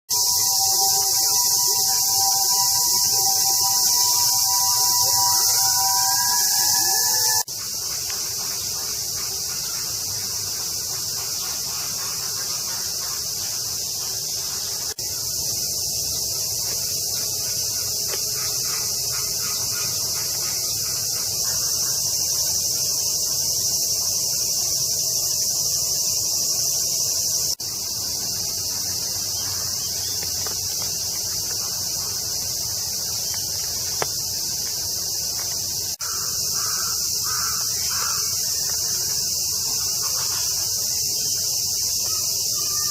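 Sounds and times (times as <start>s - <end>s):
cicadas droning: 0.1s - 42.9s.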